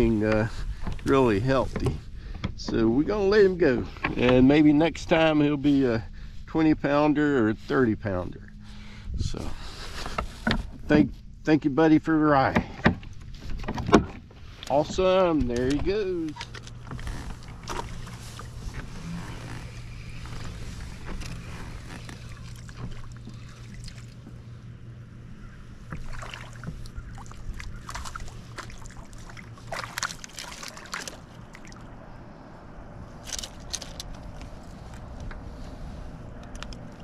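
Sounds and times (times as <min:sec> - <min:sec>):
water lapping at hull: 0:00.0 - 0:11.3, 0:12.4 - 0:37.0
steady low hum: 0:00.0 - 0:37.0.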